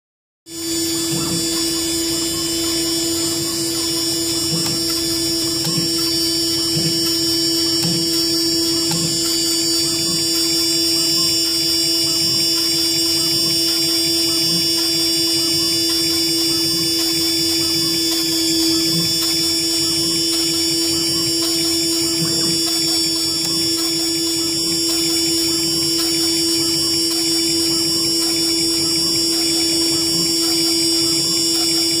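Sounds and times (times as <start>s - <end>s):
router spindle whining: 0.5s - 32.0s
soft low pulse: 0.6s - 32.0s.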